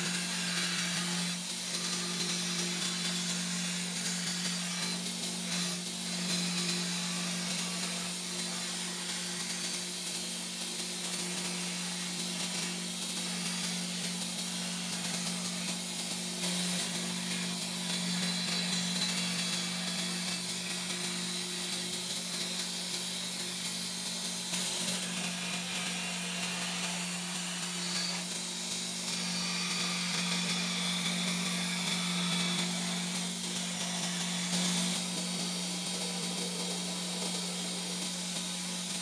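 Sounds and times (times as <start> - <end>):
belt grinder motor hum: 0.0 - 39.0.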